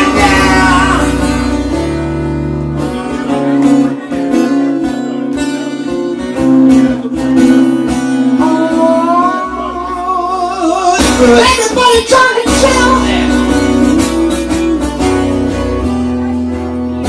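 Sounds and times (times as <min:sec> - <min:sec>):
bass guitar: 0:00.0 - 0:17.0
blues guitar fill: 0:00.0 - 0:17.0.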